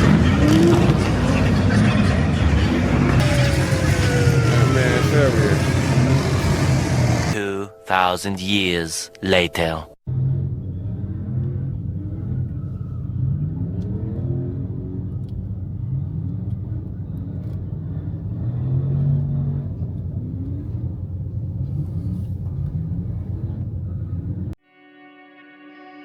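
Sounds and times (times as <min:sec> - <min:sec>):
car engine revving: 0:00.0 - 0:07.4, 0:10.1 - 0:24.6.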